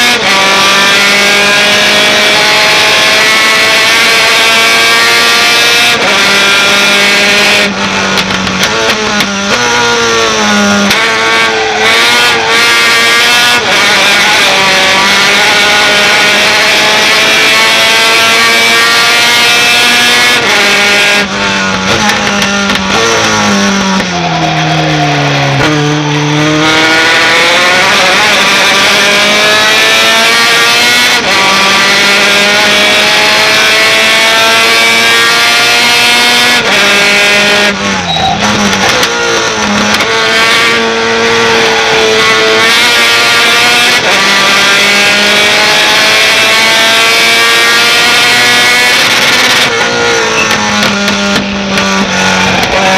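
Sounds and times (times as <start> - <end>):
truck engine at high revs: 0.0 - 52.9.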